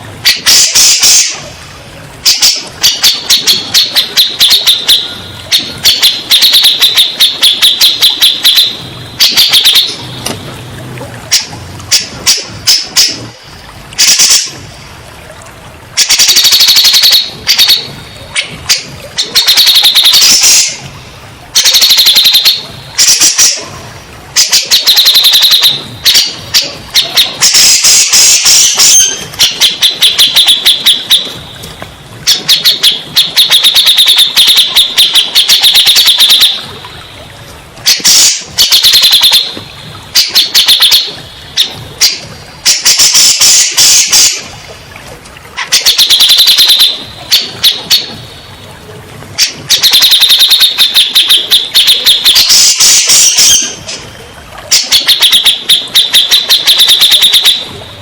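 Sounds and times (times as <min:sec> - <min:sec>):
bulbul chattering song: 0:00.2 - 0:10.4, 0:11.2 - 0:14.8, 0:16.0 - 0:37.2, 0:37.8 - 0:44.8, 0:45.6 - 0:48.5, 0:49.4 - 0:54.0, 0:54.7 - 0:58.0.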